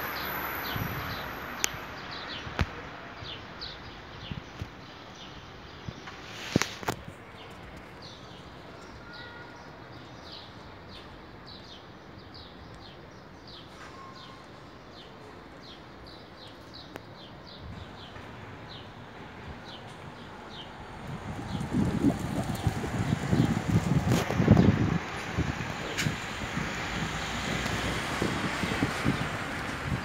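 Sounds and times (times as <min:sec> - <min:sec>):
breeze and rustling leaves: 0:00.0 - 0:30.0.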